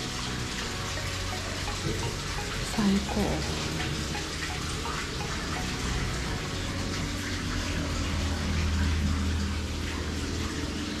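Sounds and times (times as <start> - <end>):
water pouring into a bath: 0.0 - 11.0.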